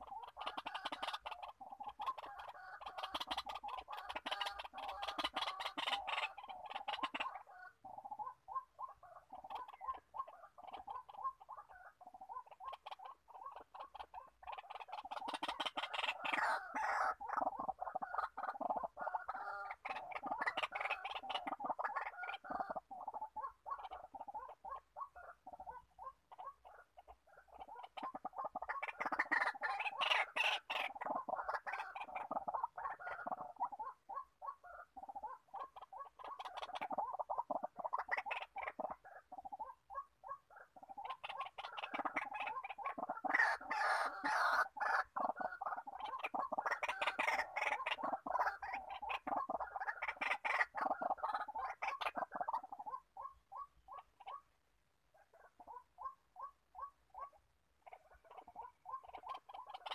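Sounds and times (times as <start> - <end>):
waterhen harsh croaking: 0.0 - 54.6.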